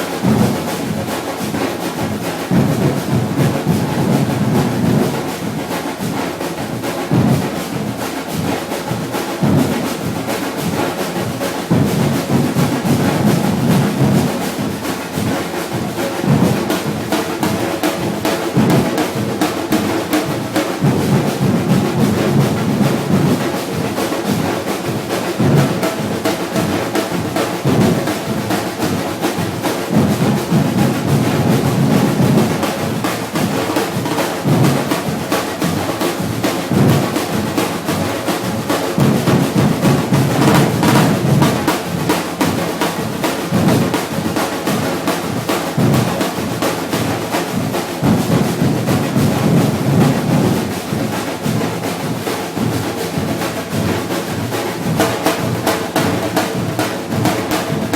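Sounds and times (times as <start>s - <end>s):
percussion ensemble drumming: 0.0s - 57.9s.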